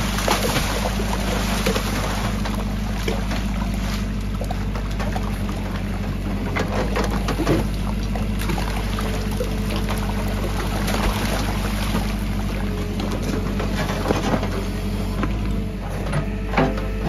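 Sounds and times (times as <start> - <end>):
diesel engine running: 0.0 - 17.0
soil and brick clattering down shaft: 0.0 - 17.0.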